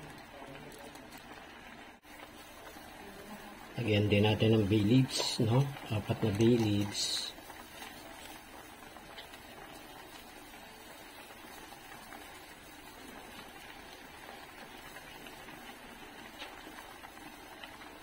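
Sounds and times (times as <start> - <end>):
braise bubbling in a pan: 0.0 - 18.0.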